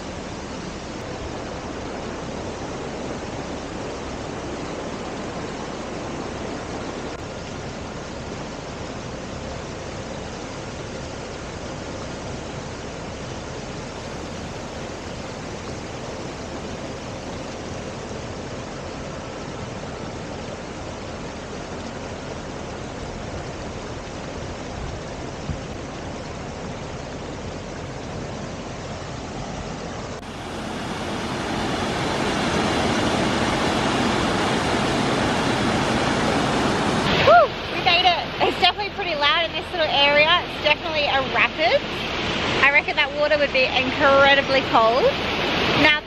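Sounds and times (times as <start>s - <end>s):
creek water rushing over rapids: 0.0s - 46.0s.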